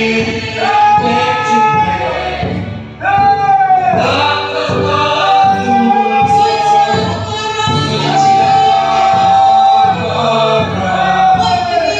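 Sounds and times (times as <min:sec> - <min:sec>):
congregation singing: 0:00.0 - 0:11.9
drum beating steadily: 0:00.0 - 0:11.9.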